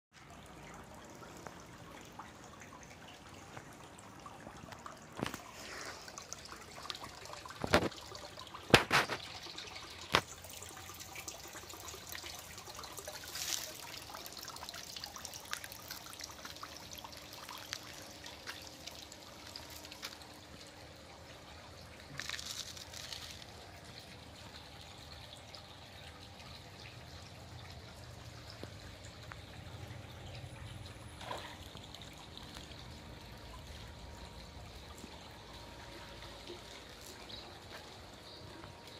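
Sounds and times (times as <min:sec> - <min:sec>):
water trickling into pond: 0:00.1 - 0:38.9.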